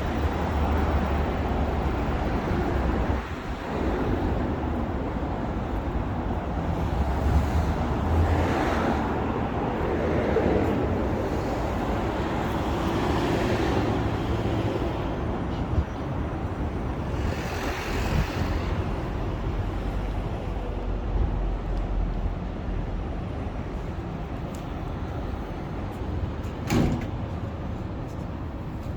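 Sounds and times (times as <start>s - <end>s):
cars going by: 0.0s - 28.9s.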